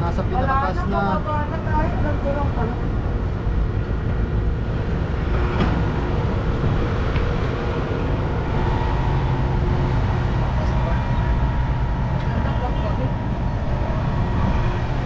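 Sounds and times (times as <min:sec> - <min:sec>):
faint mechanical hum: 0:00.0 - 0:15.0
steady low rumble: 0:00.0 - 0:15.0.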